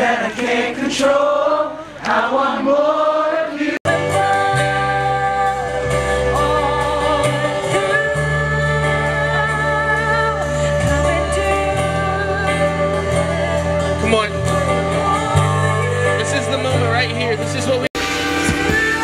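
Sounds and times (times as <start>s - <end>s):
voices singing worship song: 0.0s - 16.5s.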